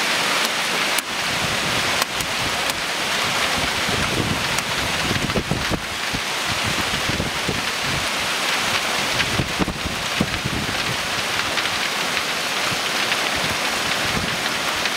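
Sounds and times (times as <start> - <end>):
hail and rain pelting: 0.0 - 14.9.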